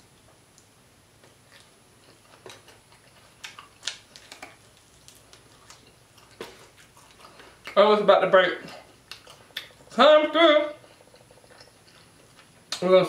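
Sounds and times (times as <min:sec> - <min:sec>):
crunchy chewing with mouth clicks: 0:00.5 - 0:07.9, 0:08.6 - 0:13.0.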